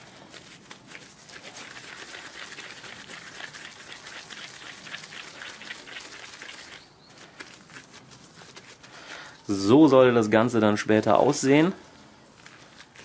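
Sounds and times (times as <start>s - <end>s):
gloved hands kneading meat: 0.0s - 10.2s, 10.9s - 13.0s.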